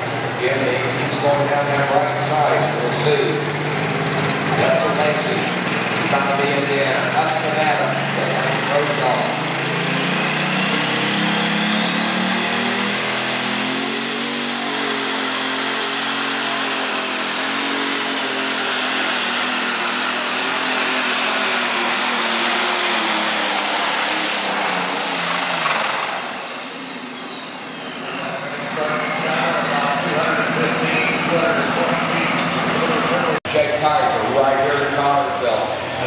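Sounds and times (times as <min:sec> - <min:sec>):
diesel engine at full throttle: 0:00.0 - 0:36.0
high turbo whine: 0:00.0 - 0:36.0.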